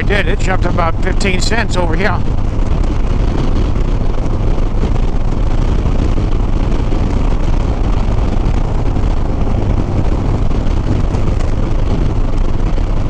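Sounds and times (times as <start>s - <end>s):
motorcycle engine cruising: 0.0s - 13.0s
wind rushing over microphone: 0.0s - 13.0s.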